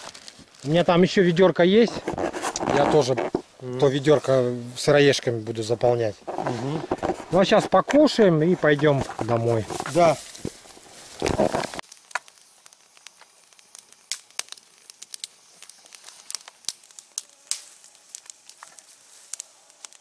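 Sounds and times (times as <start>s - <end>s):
fire hiss: 0.0s - 20.0s
twigs crackling in fire: 0.0s - 20.0s.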